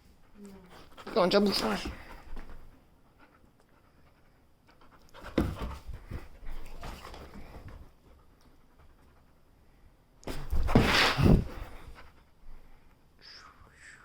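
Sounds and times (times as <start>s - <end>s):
dog panting: 0.0s - 12.8s.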